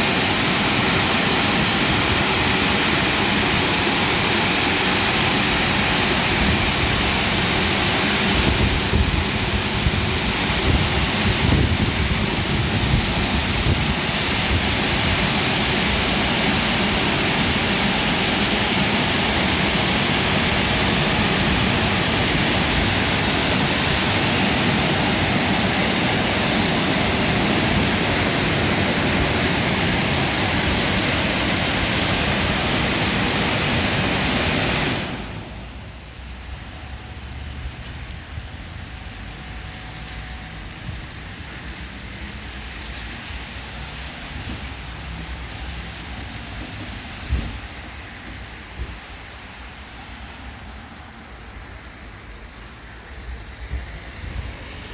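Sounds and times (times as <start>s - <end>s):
car wash air dryer blowers: 0.0s - 54.9s.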